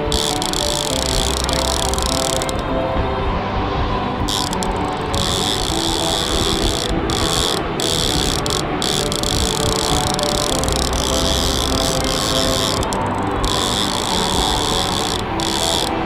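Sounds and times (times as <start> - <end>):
fishing reel drag clicking: 0.0 - 2.6, 4.3 - 16.0
boat engine hum: 0.0 - 2.8, 4.3 - 16.0.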